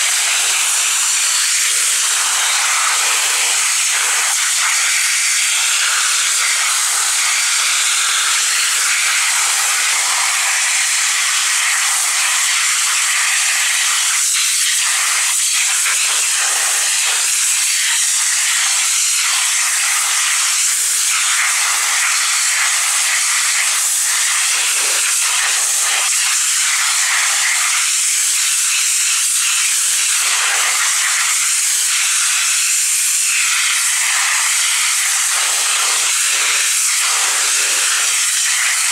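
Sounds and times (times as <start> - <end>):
pressure washer spray hiss: 0.0 - 38.9.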